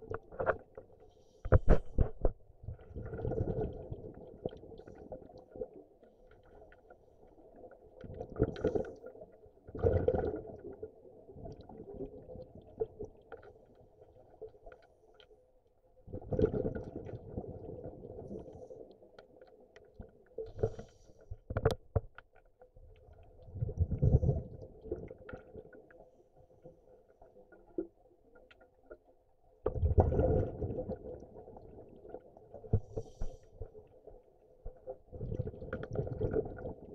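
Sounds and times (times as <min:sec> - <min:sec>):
underwater bubbling rumble: 0:01.5 - 0:14.8, 0:16.0 - 0:20.8, 0:22.8 - 0:36.9.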